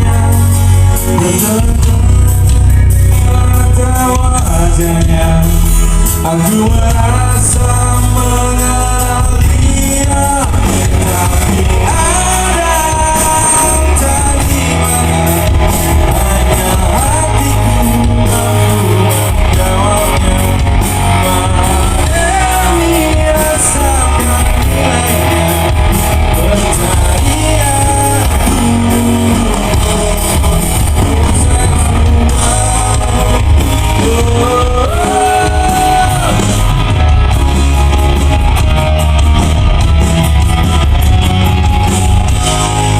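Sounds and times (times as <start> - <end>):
bending melody line: 0.0 - 42.9
live rock band playing: 0.0 - 42.9.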